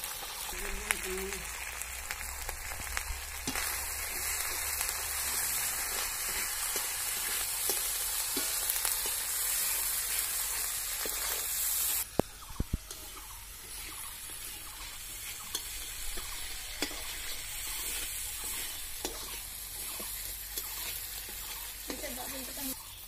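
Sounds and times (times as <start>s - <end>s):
onions sizzling in hot oil: 0.0s - 23.0s
metal spatula scraping pan: 3.4s - 22.7s.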